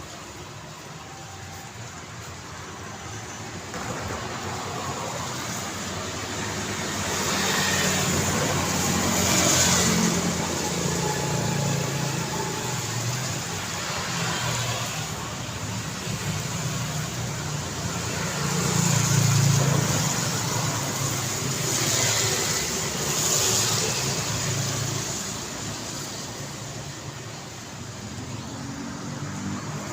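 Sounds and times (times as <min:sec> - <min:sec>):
cars and motorbikes passing: 0:03.4 - 0:29.9.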